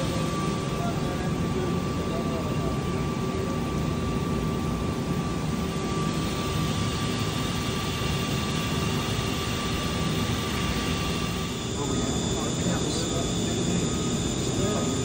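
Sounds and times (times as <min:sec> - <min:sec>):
higher spindle whine: 0:00.0 - 0:15.0
machine spindle hum with whine: 0:00.0 - 0:15.0.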